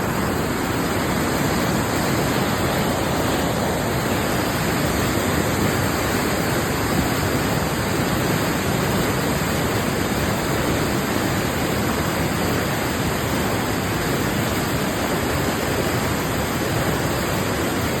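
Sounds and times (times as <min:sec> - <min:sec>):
rushing white water: 0:00.0 - 0:18.0.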